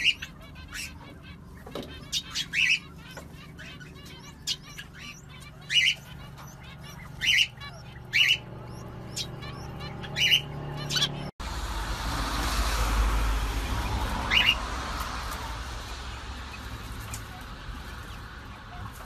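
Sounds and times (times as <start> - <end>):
canaries chirping: 0.0 - 11.4, 12.2 - 19.0.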